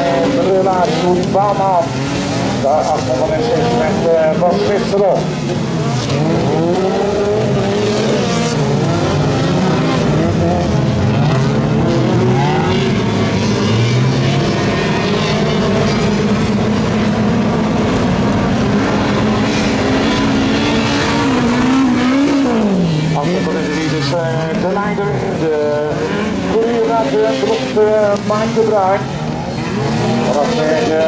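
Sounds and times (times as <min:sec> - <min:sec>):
racing car engines revving: 0:00.0 - 0:31.0.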